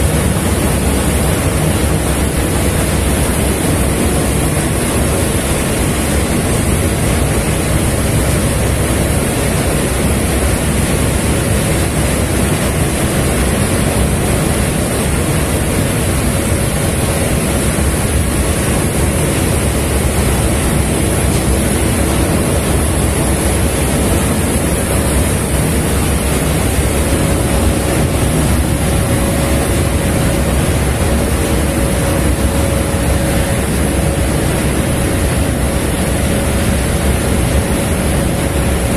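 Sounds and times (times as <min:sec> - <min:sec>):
ship engine drone: 0:00.0 - 0:38.9
water rushing: 0:00.0 - 0:38.9.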